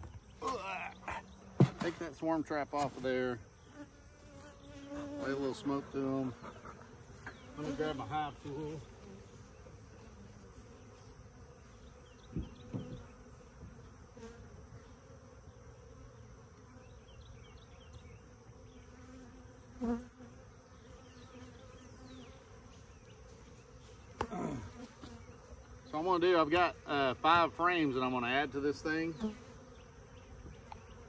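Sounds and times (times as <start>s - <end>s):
honeybees buzzing: 0.0s - 31.0s.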